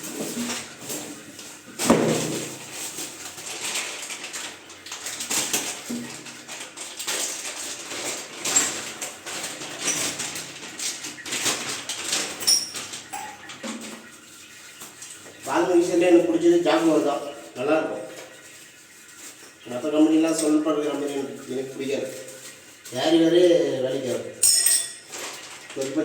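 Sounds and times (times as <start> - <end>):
rustling: 0.0 - 24.2.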